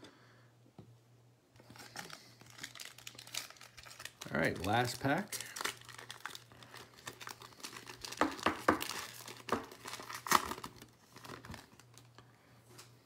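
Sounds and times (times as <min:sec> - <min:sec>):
foil wrapper crinkling and tearing: 0:01.6 - 0:12.2.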